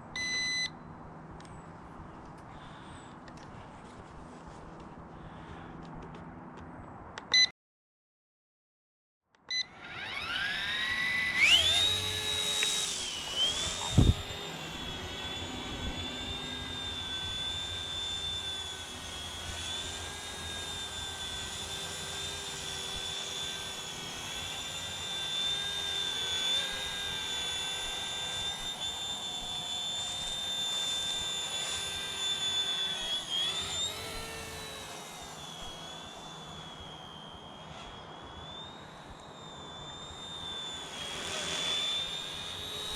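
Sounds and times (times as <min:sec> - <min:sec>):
rc helicopter whine: 0:00.0 - 0:06.7, 0:09.5 - 0:42.9.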